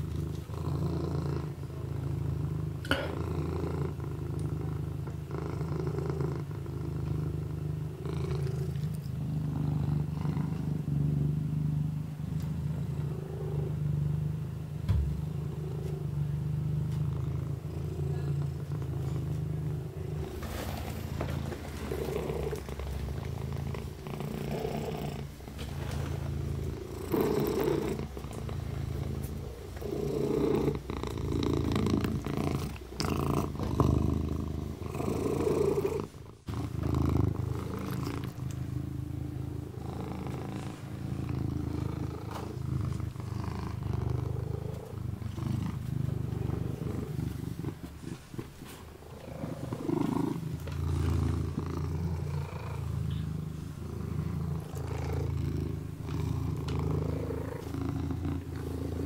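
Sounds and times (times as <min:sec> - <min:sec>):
kitten purring: 0:00.0 - 0:59.0.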